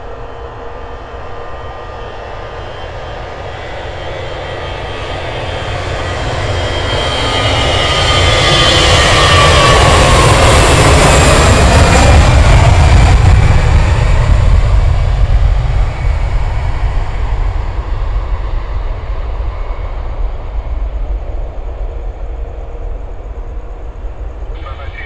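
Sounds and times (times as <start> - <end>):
jet engines roaring at takeoff: 0.0 - 25.0.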